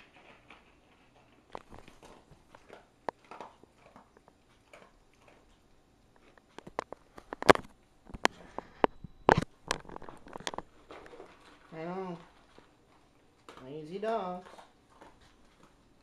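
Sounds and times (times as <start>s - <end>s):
dog crunching dry kibble: 0.0s - 16.0s.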